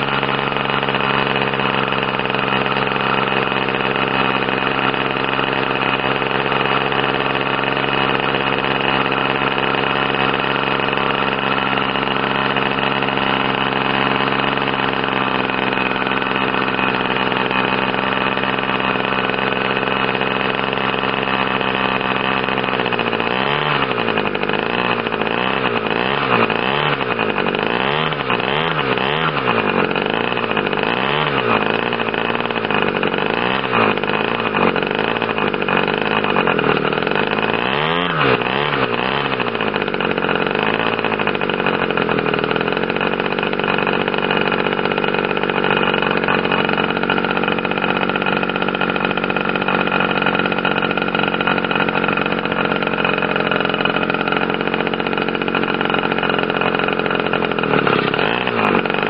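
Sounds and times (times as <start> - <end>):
model airplane engine running: 0.0 - 59.0.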